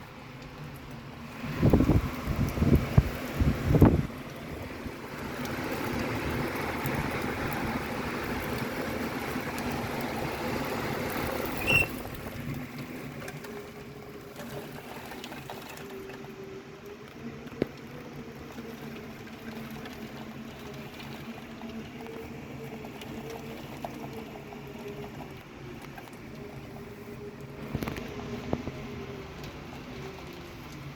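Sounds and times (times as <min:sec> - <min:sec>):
wind and rain rushing: 0:00.0 - 0:30.9.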